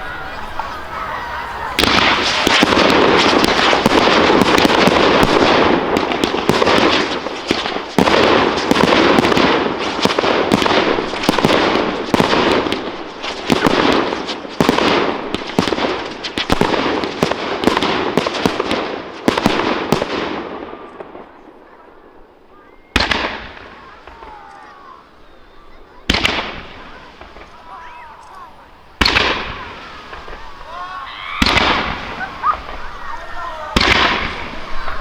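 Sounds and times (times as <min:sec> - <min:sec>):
fireworks crackling and banging: 0:00.0 - 0:35.0.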